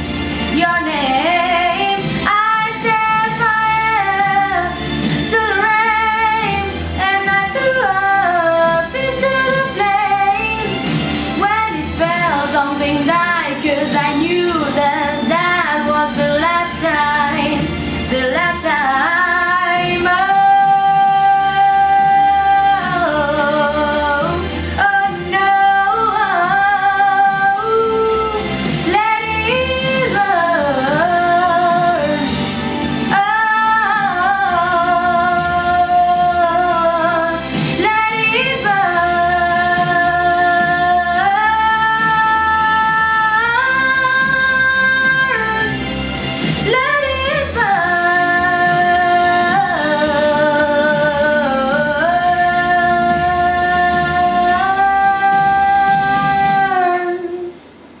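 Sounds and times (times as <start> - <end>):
background music: 0.0 - 58.0.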